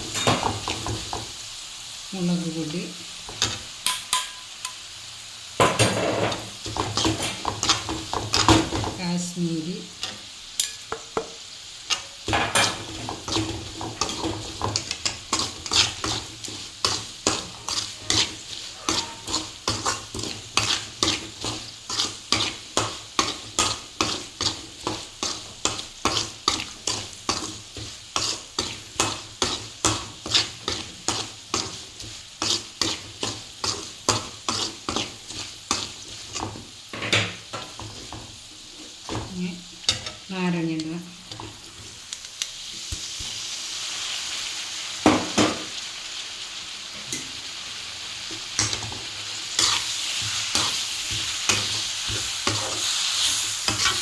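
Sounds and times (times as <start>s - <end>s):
spoon scraping a pan: 0.0s - 1.3s, 3.2s - 4.9s, 5.6s - 9.0s, 10.0s - 42.0s, 48.3s - 54.0s
spices sizzling in oil: 0.0s - 54.0s.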